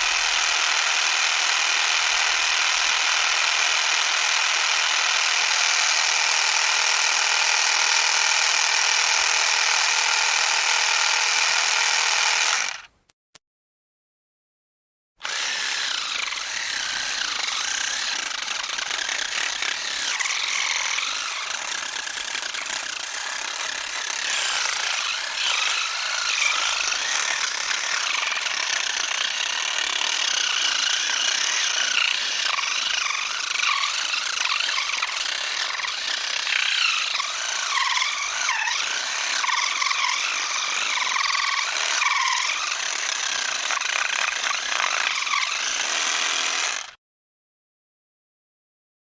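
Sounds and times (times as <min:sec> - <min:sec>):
electric screwdriver whirring: 0:00.0 - 0:05.1, 0:06.8 - 0:12.9, 0:15.2 - 0:46.9.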